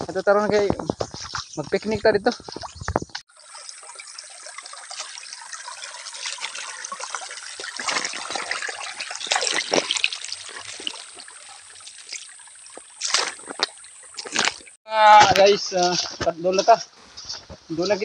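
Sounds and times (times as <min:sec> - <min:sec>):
water splashes: 0:00.0 - 0:14.8
stream trickling over stones: 0:00.1 - 0:14.8.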